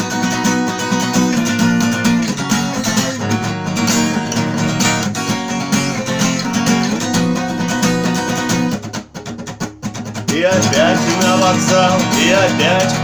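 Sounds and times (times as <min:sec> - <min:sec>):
acoustic guitar strummed fast: 0:00.0 - 0:13.0.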